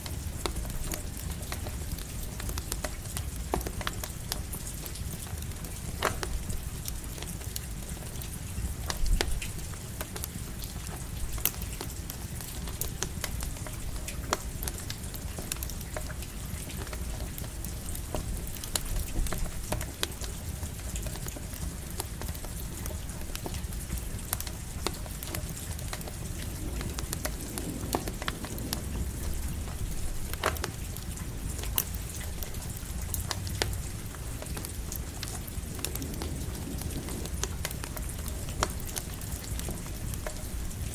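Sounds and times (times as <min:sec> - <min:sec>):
campfire crackling and popping: 0:00.0 - 0:40.9
light rain hiss: 0:00.0 - 0:40.9.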